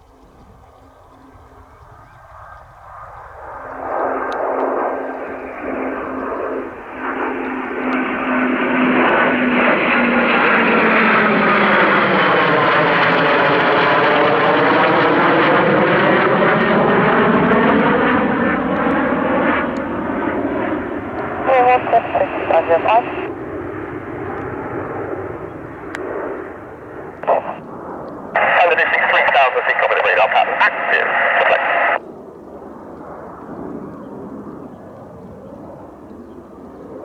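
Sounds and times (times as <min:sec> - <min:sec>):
jet engines roaring: 0:01.2 - 0:34.6.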